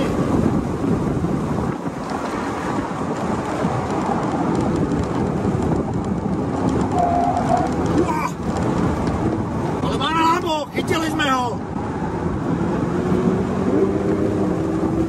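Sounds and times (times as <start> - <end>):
car engine running: 0.0 - 15.0
road noise: 0.0 - 15.0
wind rush: 0.0 - 15.0.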